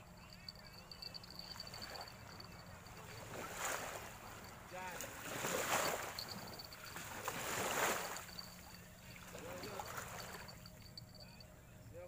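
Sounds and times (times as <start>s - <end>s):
high-pitched chirring: 0.0s - 4.9s, 5.6s - 9.0s, 9.6s - 11.4s.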